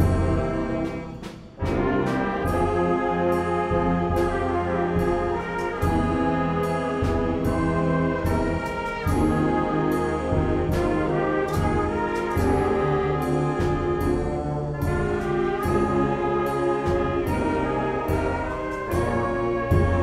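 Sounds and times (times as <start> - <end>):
concert band playing chords: 0.0 - 20.0.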